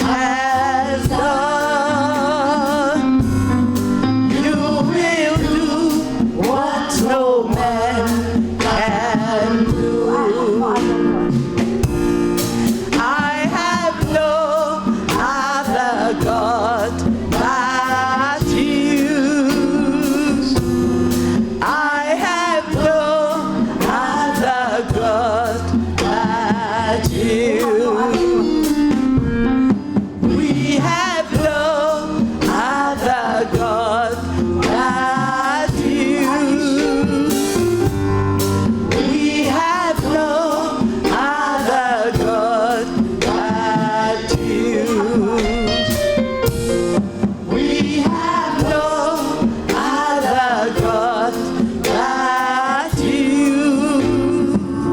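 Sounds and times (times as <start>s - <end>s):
band with regular drum beat: 0.0s - 54.9s
gospel singers with vibrato: 0.0s - 54.9s.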